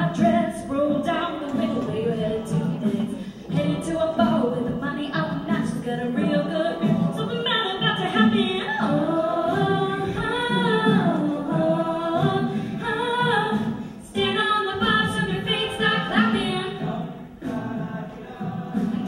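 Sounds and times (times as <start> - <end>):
a cappella group singing in harmony: 0.0 - 19.0
vocal percussion: 0.0 - 19.0.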